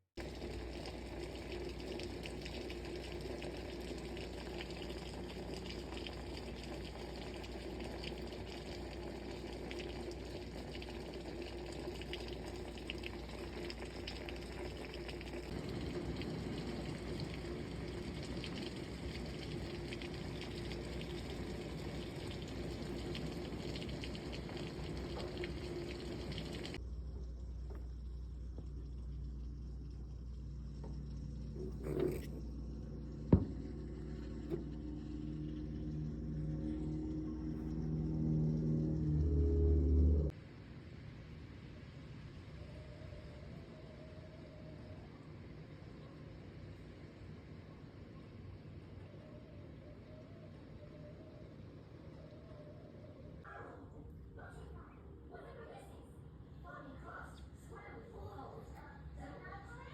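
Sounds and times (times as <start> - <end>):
rain pouring: 0.2 - 53.2.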